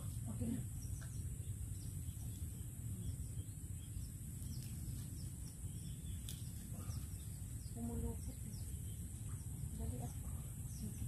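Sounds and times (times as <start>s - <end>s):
faint bird chirps: 0.0s - 11.0s
insects chirping: 0.0s - 11.0s.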